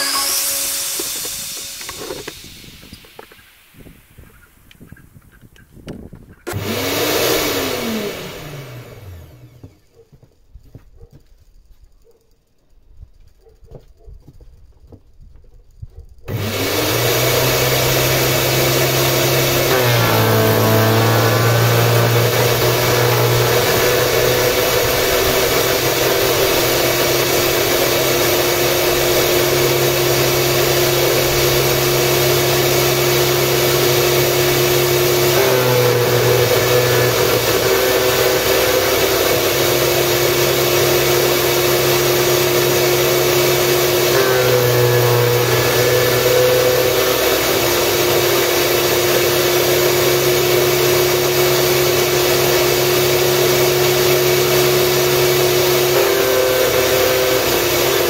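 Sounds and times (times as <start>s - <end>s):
garden shredder motor hum: 0.0s - 4.2s, 6.0s - 10.3s, 16.2s - 58.0s.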